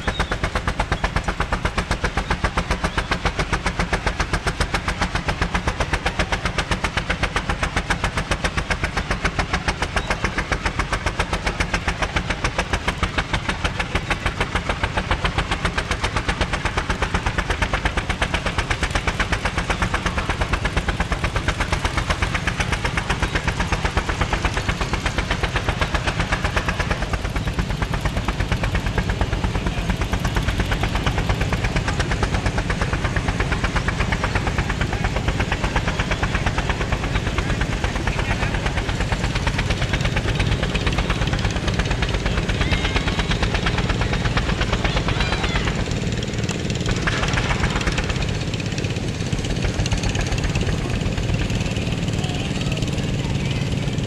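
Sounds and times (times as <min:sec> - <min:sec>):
steam engine exhaust chuffing: 0:00.0 - 0:54.0.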